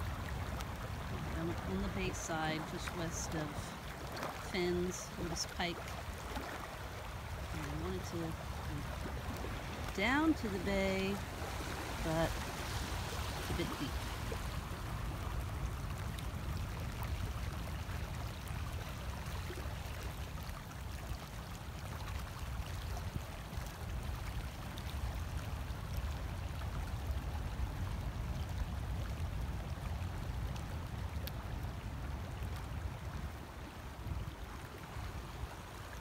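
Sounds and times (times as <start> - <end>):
seawater rushing over beach: 0.0 - 36.0.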